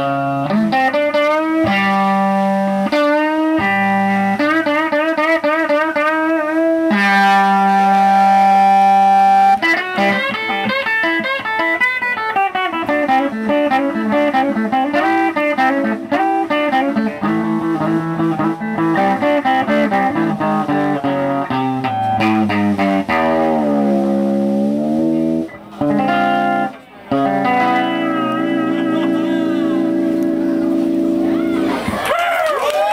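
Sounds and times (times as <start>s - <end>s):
rock band playing: 0.0s - 32.0s
electric guitar lead: 0.0s - 32.1s.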